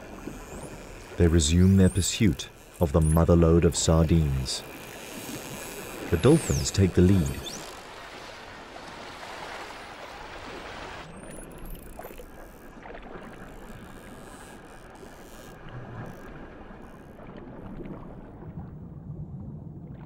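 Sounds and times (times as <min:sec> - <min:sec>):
muffled underwater wash: 0:00.0 - 0:14.2, 0:15.6 - 0:20.0
sea water splashing: 0:00.0 - 0:20.0.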